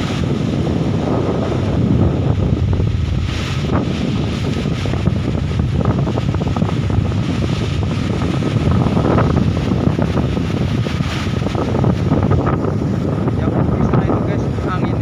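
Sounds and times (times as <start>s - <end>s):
strong wind gusting into microphone: 0.0s - 15.0s.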